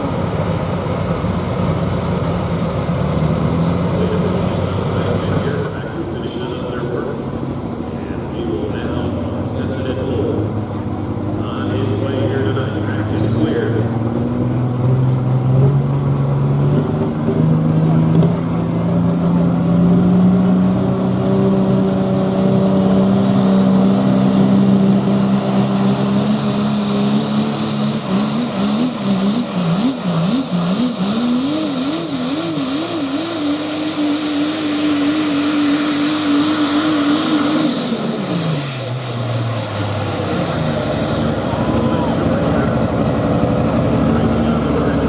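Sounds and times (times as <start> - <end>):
diesel pickup engine revving: 0.0 - 45.0.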